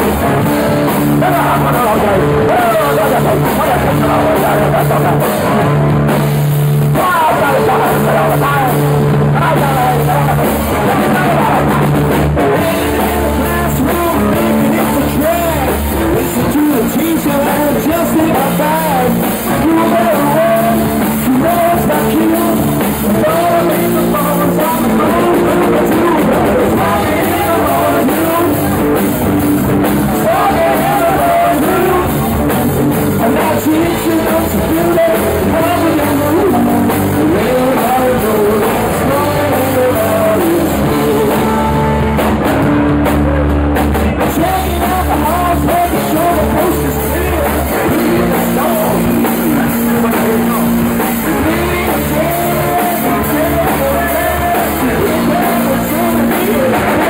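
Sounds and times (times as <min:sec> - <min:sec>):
man singing: 0:00.0 - 0:42.8, 0:44.0 - 0:57.0
bass guitar: 0:00.0 - 0:57.0
drum kit: 0:00.0 - 0:57.0
electric guitar: 0:00.0 - 0:57.0.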